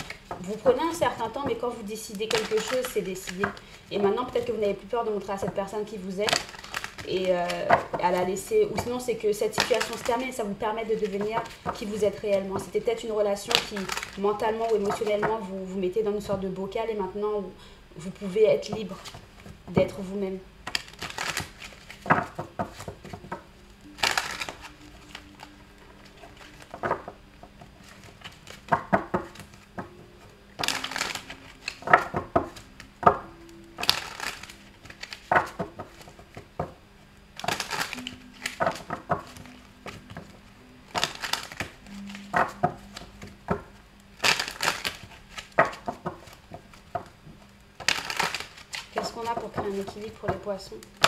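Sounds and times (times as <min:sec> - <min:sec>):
cards being shuffled: 0:00.0 - 0:16.5, 0:18.0 - 0:51.0
soft background music: 0:00.0 - 0:51.0.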